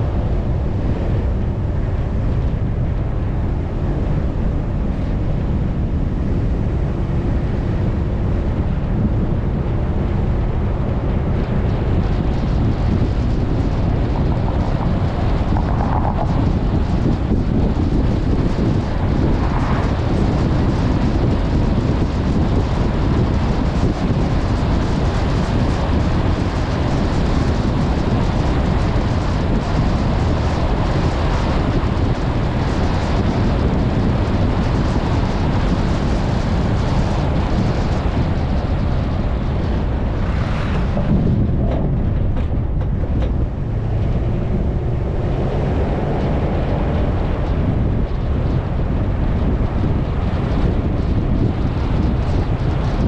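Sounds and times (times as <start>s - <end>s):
moving vehicle noise: 0.0s - 53.0s
wind buffeting microphone: 0.0s - 53.0s.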